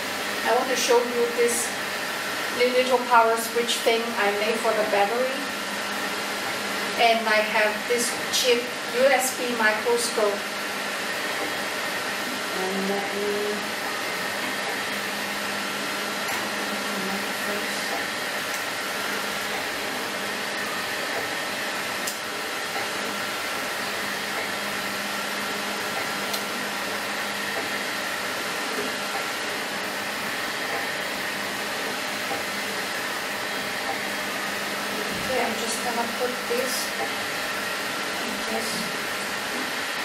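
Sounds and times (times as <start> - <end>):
fan whooshing: 0.0 - 40.0.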